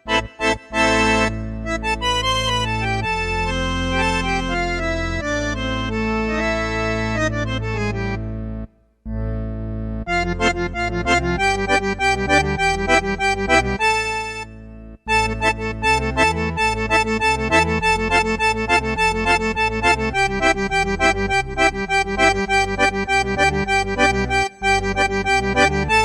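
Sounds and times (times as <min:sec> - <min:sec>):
electronic keyboard melody with accompaniment: 0:00.0 - 0:26.0.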